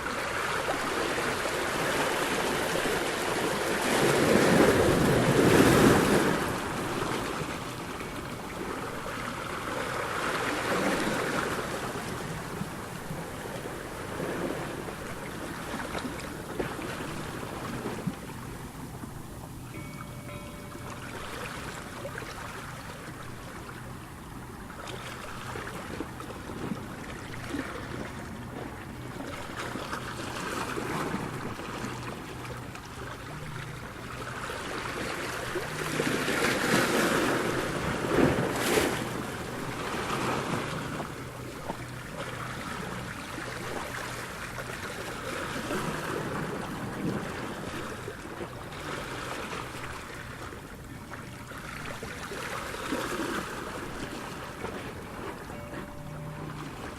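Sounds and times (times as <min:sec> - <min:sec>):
waves washing up the shore: 0:00.0 - 0:56.9.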